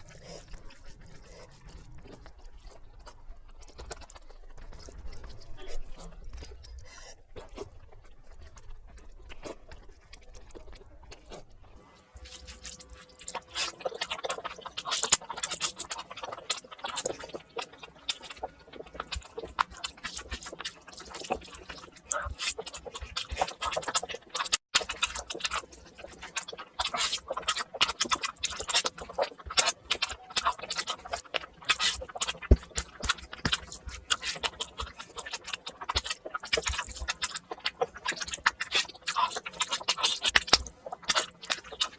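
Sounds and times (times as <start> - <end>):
wet eating mouth sounds: 0.0 - 41.9.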